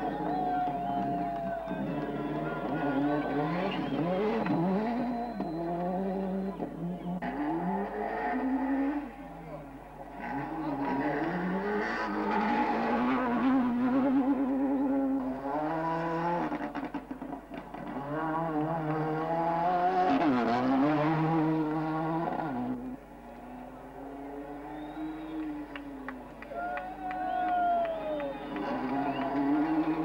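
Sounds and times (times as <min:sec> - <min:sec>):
rally car engine at full throttle: 0:00.0 - 0:27.0, 0:27.8 - 0:30.0.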